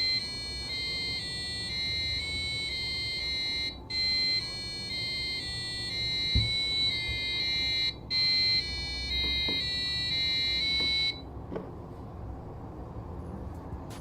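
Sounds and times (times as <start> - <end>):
electronic buzzer melody: 0.0 - 11.3.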